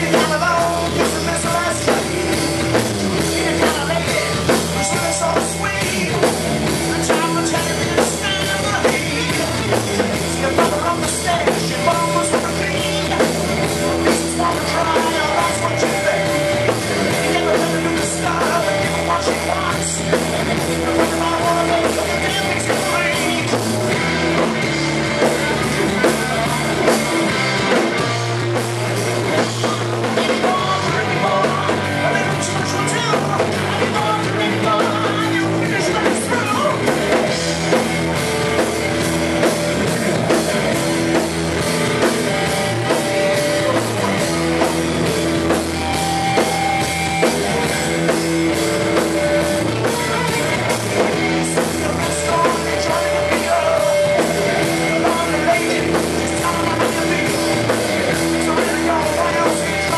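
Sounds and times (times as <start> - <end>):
bass guitar: 0.0 - 59.9
drum kit beat: 0.0 - 59.9
electric guitar: 0.0 - 59.9
keyboard: 0.0 - 59.9
man singing lead: 0.0 - 59.9.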